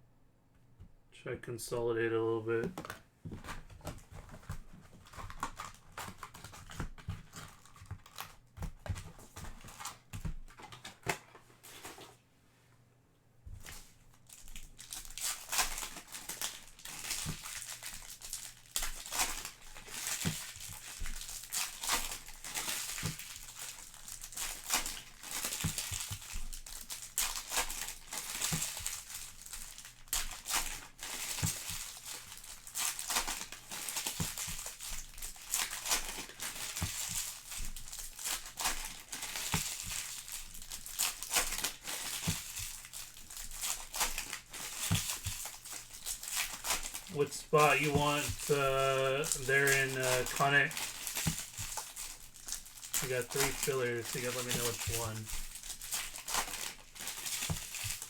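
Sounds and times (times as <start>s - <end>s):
wrappers crinkling: 2.7s - 12.2s, 13.6s - 58.0s.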